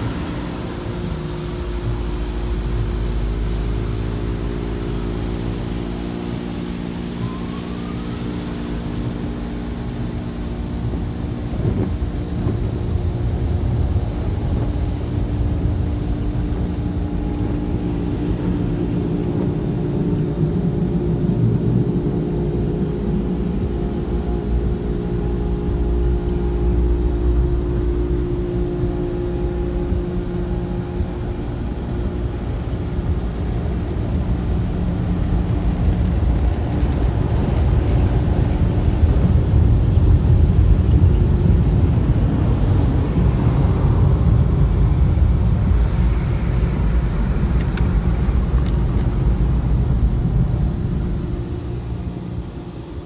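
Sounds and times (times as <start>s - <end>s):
car engine and tyre rumble: 0.0s - 53.0s
steady multi-tone hum: 0.0s - 53.0s.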